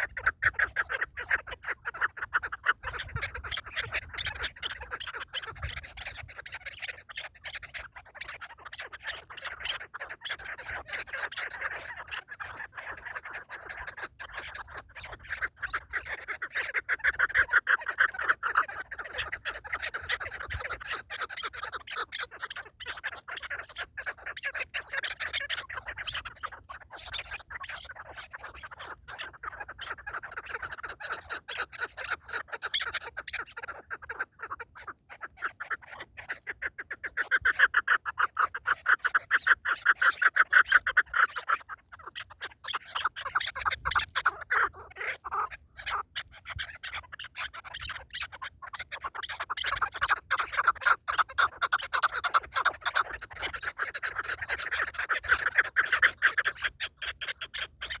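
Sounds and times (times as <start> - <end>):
partridge chuckling calls: 0.0 - 58.0.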